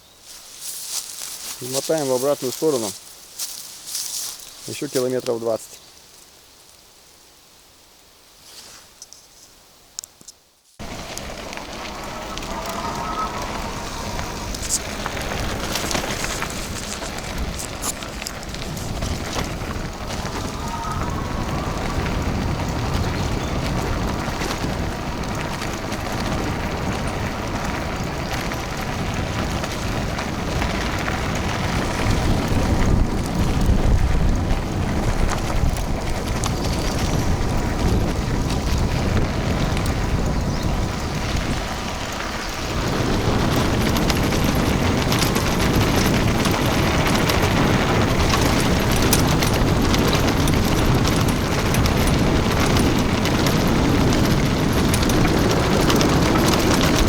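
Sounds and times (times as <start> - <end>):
tyre rumble: 10.8 - 57.0
wind buffeting microphone: 10.8 - 57.0.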